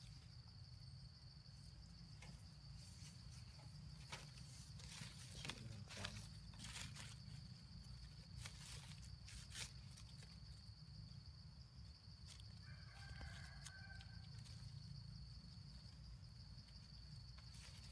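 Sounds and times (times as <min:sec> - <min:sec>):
leaves rustling: 0:01.5 - 0:11.1, 0:11.9 - 0:17.9.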